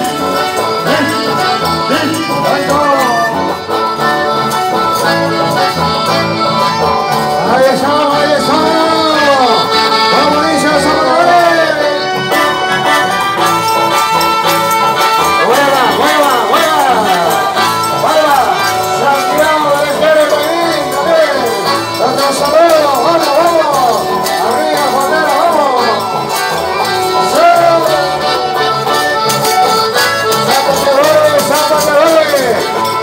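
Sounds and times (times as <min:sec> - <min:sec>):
accordion melody: 0:00.0 - 0:33.0
live band over pa: 0:00.0 - 0:33.0
strummed acoustic guitars: 0:00.0 - 0:33.0.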